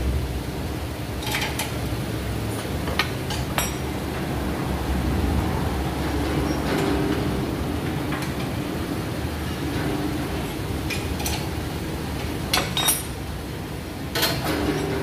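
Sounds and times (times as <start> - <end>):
low workshop rumble: 0.0 - 15.0.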